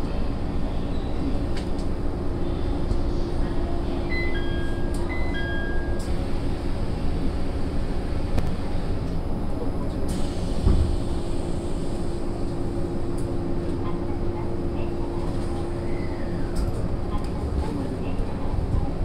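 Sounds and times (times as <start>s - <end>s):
train interior hum and rumble: 0.0s - 19.0s.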